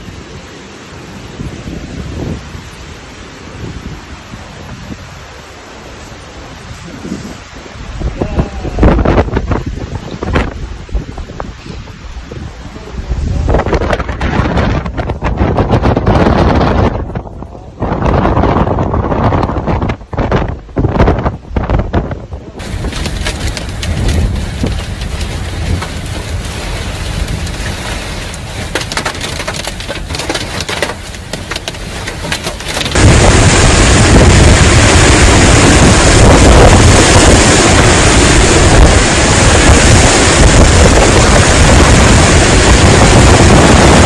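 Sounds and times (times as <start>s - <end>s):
rain and wind rushing: 0.0s - 44.0s.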